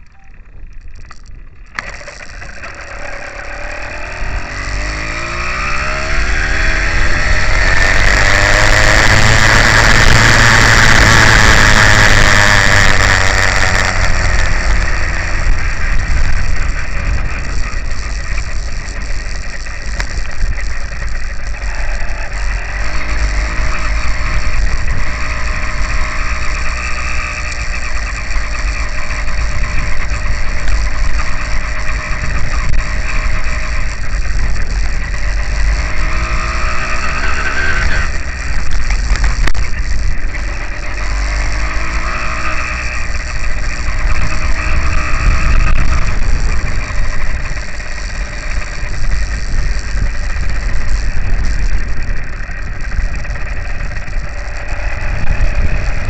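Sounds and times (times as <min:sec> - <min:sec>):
wind rumble on microphone: 0:00.0 - 0:56.0
small two-stroke engine revving: 0:01.0 - 0:56.0.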